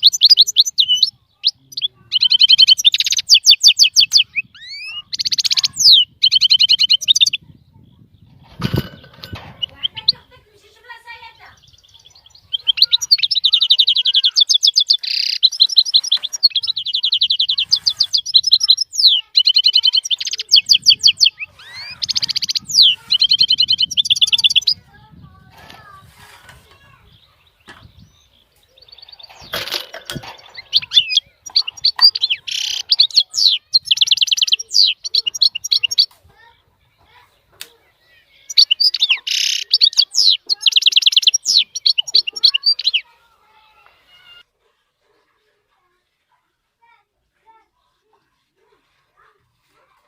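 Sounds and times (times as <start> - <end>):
caged songbirds trilling: 0.0 - 45.2.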